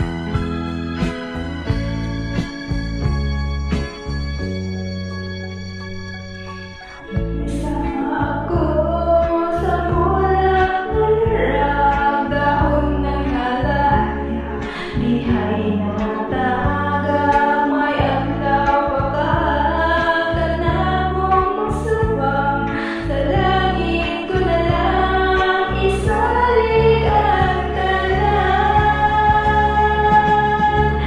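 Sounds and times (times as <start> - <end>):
music backing track: 0.0 - 31.0.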